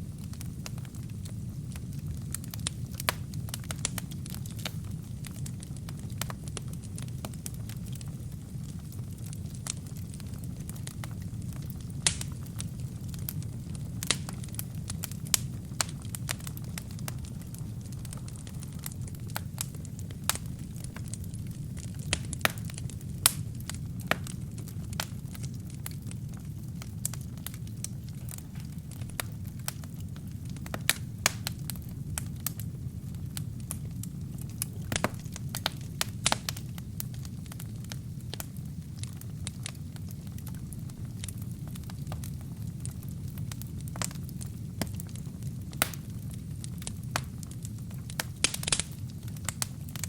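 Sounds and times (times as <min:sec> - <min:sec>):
burning logs popping: 0:00.0 - 0:50.0
low rumble of flames: 0:00.0 - 0:50.0.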